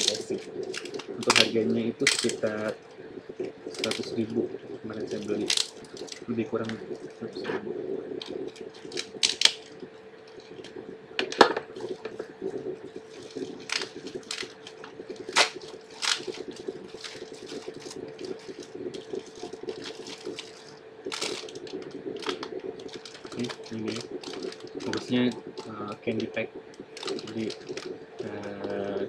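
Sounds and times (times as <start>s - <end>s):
plastic packaging crinkling: 0.0s - 2.8s, 3.6s - 7.0s, 8.2s - 10.8s, 11.7s - 28.9s
faint steady hum: 0.0s - 29.0s.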